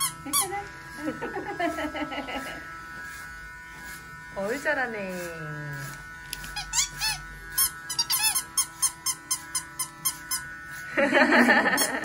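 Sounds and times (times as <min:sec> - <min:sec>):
hair clippers humming: 0:00.0 - 0:12.0.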